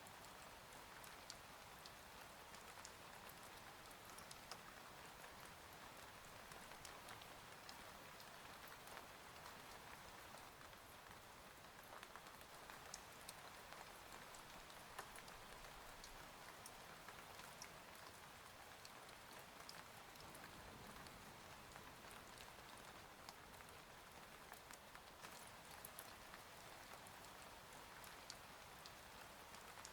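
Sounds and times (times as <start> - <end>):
faint steady rain: 0.0 - 29.9.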